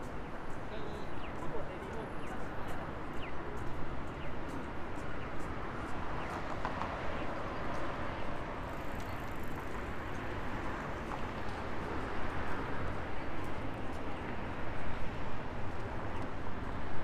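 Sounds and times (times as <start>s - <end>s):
city street background noise: 0.0s - 17.0s.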